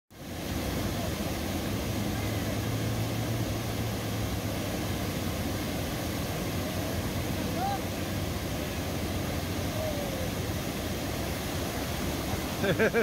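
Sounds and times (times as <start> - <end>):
whitewater rushing over rocks: 0.1 - 13.0.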